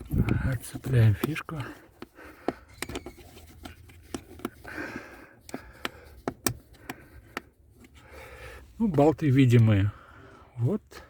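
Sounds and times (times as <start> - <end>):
handling rustle: 0.0 - 9.8.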